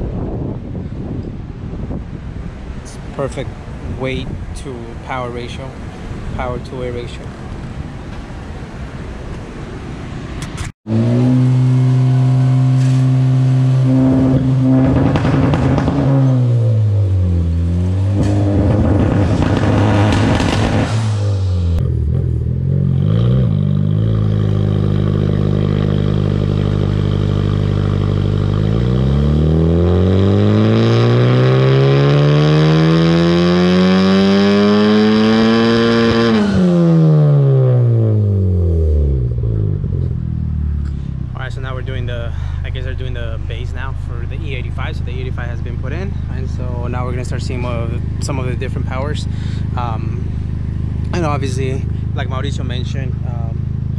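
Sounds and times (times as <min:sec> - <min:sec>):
turbocharged car engine revving: 0:10.5 - 0:53.9.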